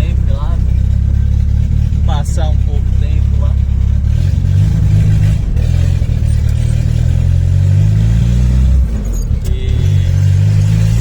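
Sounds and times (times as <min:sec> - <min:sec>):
turbocharged car engine drone: 0:00.0 - 0:11.0.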